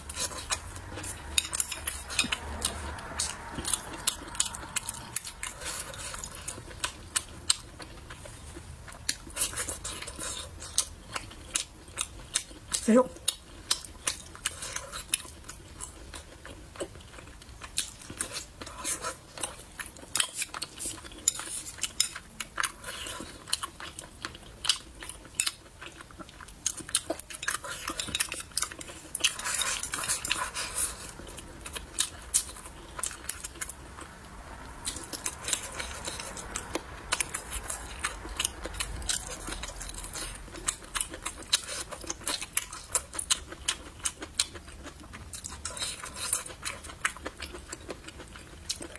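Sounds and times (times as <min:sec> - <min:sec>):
wet chewing and crunching: 0:00.0 - 0:48.9.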